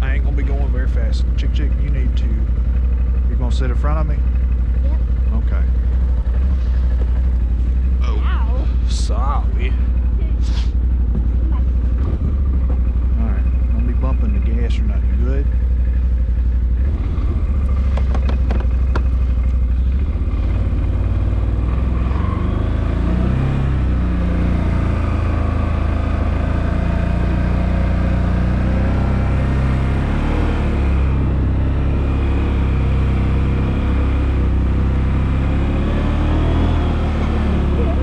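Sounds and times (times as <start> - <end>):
utility vehicle engine running: 0.0 - 38.0.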